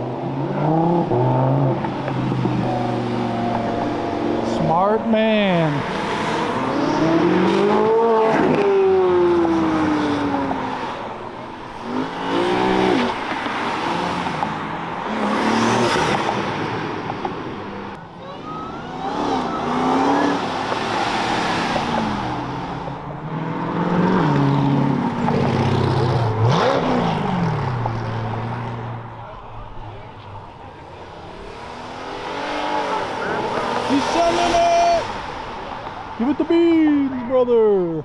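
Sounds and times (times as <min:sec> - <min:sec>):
cars accelerating hard past: 0:00.0 - 0:36.6.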